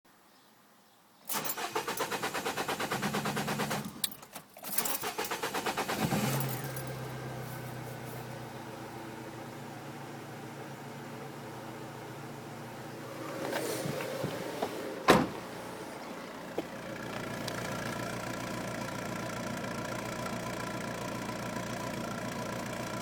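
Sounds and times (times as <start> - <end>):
car engine cranking and idling: 1.3 - 23.0.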